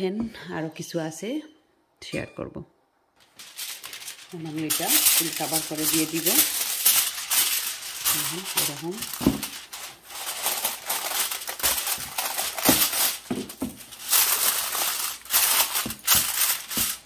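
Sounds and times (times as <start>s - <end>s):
kitchen foil crinkling: 3.2s - 17.0s.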